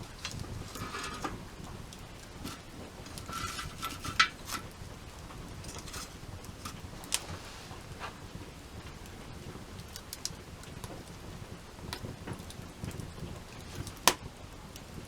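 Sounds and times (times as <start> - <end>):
sharp pops of fire: 0.0 - 15.0
wood fire crackling: 0.0 - 15.0.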